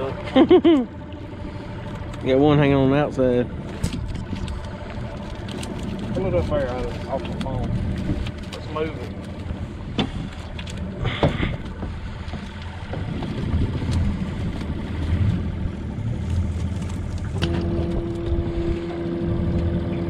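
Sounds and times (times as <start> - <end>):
boat motor rumbling: 0.0 - 20.0
steady motor hum: 0.0 - 20.0.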